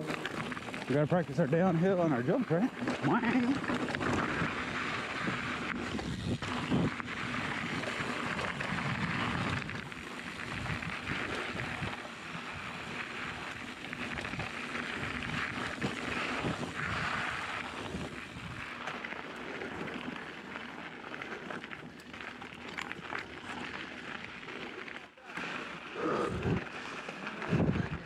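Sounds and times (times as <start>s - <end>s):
bike tyres on gravel: 0.0s - 28.0s.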